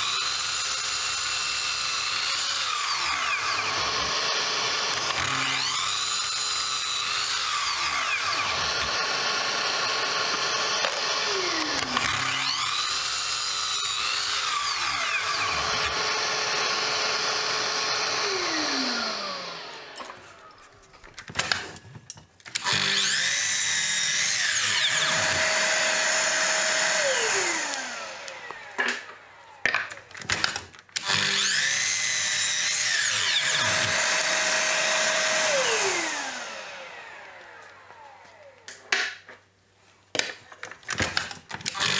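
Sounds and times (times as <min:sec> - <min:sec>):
mitre saw cutting wood: 0:00.0 - 0:20.7, 0:22.5 - 0:38.5, 0:41.6 - 0:41.9.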